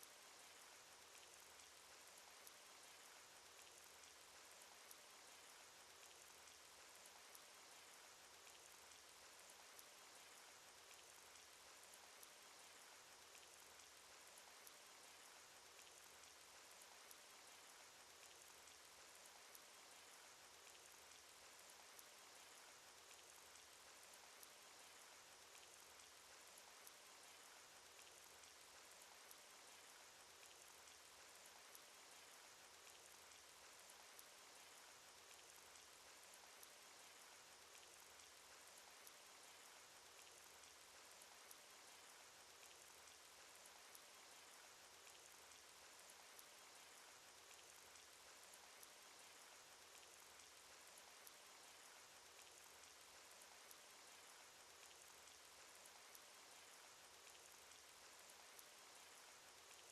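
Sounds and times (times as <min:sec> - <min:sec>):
rain hiss: 0:00.0 - 0:59.9
raindrop ticks: 0:00.0 - 0:59.9.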